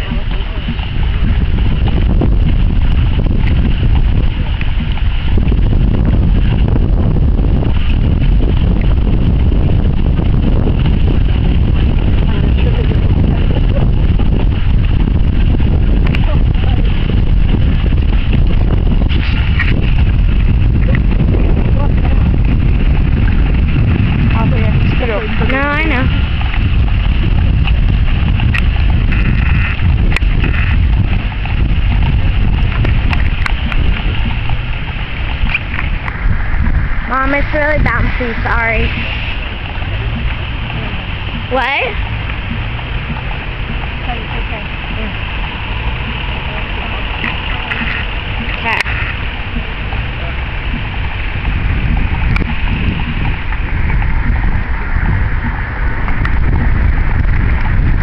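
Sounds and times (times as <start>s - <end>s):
horse hooves clip-clopping on pavement: 0.0s - 58.0s
low rumble on microphone: 0.0s - 58.0s.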